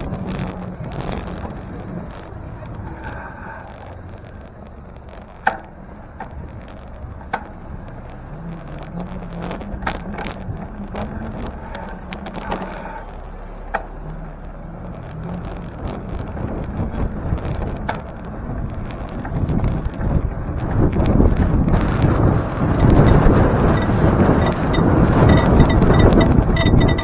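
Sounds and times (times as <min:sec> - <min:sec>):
bicycle clicks and knocks: 0:00.0 - 0:12.7, 0:13.7 - 0:14.0, 0:15.0 - 0:27.0
low rumble of riding: 0:00.0 - 0:27.0.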